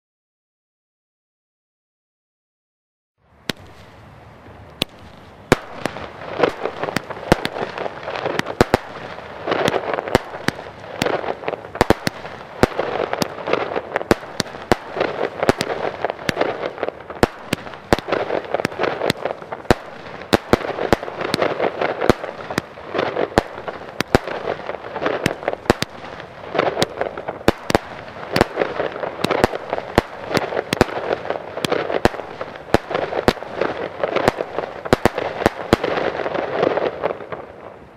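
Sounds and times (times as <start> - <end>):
firework launch reports and bursts: 3.4 - 37.9.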